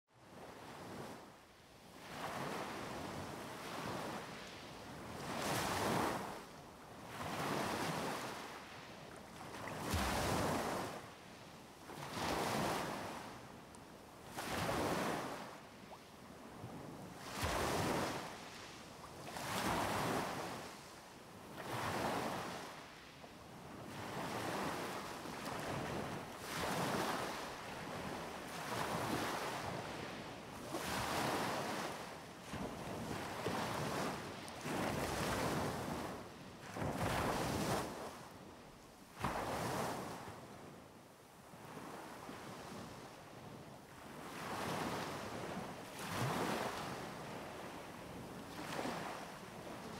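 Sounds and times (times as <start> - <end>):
small waves breaking on beach: 0.2 - 49.9.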